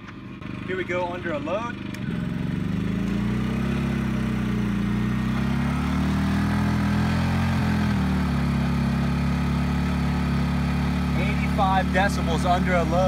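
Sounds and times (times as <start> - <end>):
generator engine droning: 0.0 - 13.0.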